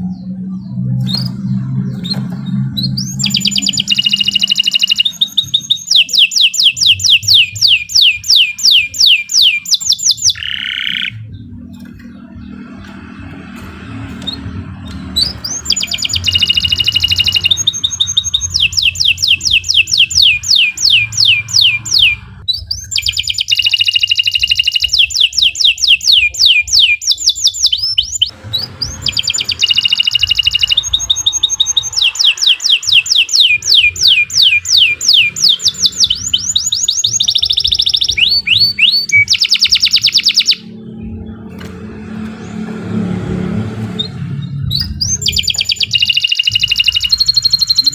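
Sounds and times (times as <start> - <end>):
canary singing trills: 0.0 - 41.6, 43.9 - 47.9.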